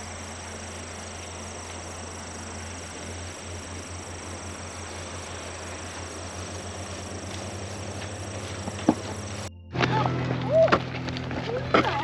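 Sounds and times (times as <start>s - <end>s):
high insect trill: 0.0s - 12.0s
low machine hum: 0.0s - 12.0s.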